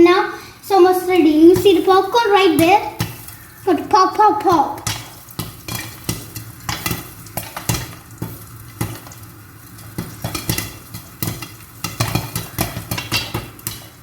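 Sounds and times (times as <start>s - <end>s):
popcorn popping: 1.0s - 14.0s.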